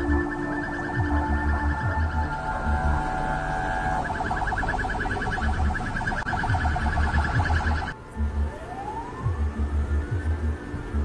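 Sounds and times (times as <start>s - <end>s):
pulsing two-pitch alarm tone: 0.0s - 11.0s
siren wail rising in pitch: 0.0s - 11.0s.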